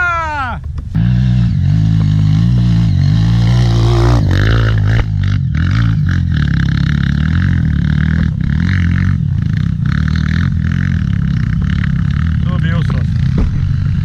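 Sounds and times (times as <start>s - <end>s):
trail bike engine under load: 0.6s - 14.0s.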